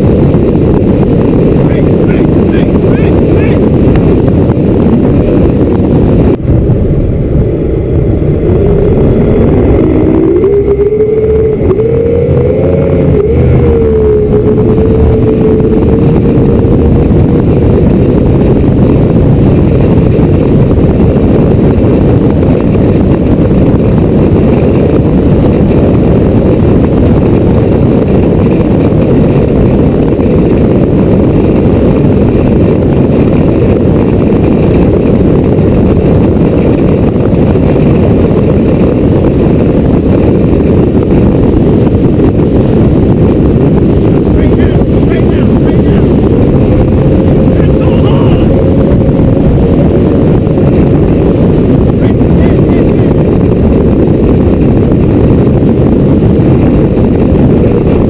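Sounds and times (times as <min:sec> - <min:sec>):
race boat engine: 0:00.0 - 0:58.0
wind rushing on microphone: 0:00.0 - 0:58.0.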